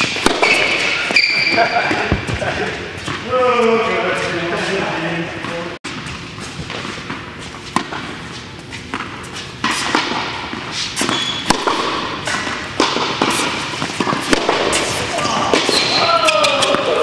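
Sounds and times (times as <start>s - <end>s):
tennis ball bouncing: 0.0s - 3.2s, 5.4s - 17.0s
rackets striking tennis ball: 0.0s - 3.3s, 5.4s - 17.0s.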